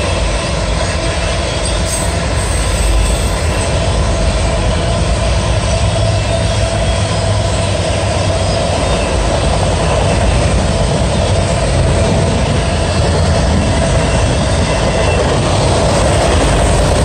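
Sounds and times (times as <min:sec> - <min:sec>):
steel wheels on rail: 0:00.0 - 0:17.0.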